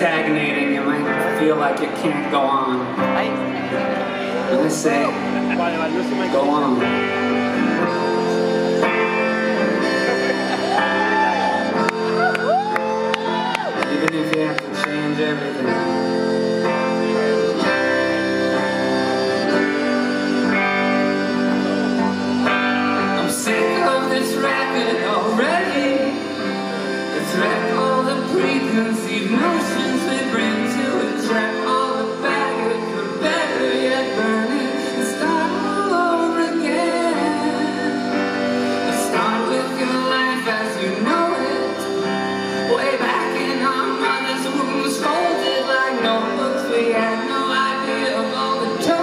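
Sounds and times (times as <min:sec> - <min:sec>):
electric guitar: 0:00.0 - 0:49.0
person singing lead vocal: 0:00.0 - 0:49.0.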